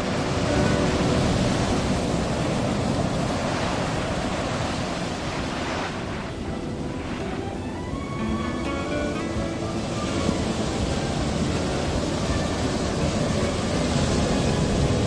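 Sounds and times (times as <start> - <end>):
ocean surf breaking over rock: 0.0 - 15.0.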